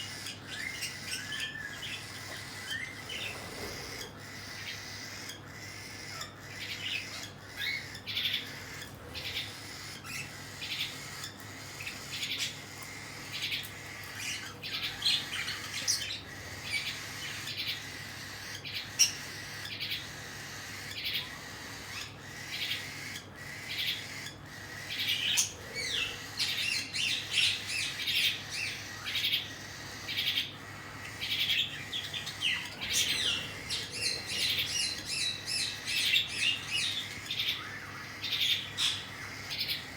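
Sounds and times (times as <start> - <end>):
bird chicks chirping: 0.0 - 39.9.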